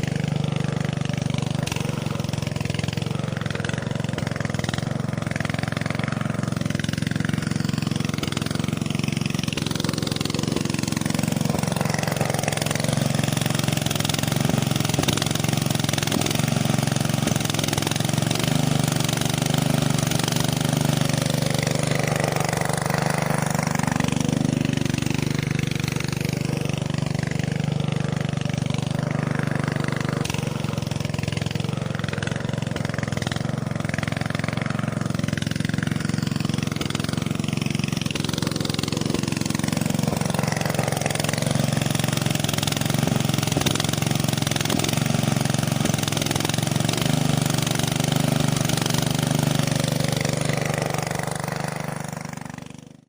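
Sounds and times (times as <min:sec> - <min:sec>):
small motor humming: 0:00.0 - 0:53.0.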